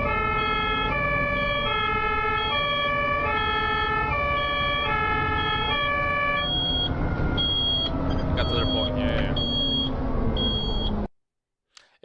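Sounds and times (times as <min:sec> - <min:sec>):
low rumble of road traffic: 0:00.0 - 0:11.1
two-tone siren: 0:00.0 - 0:11.1.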